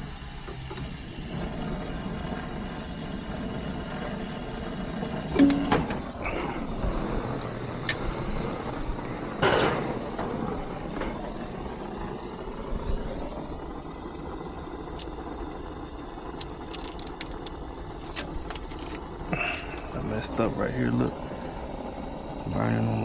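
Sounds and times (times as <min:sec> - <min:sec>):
torch flame hissing: 0:00.0 - 0:23.0.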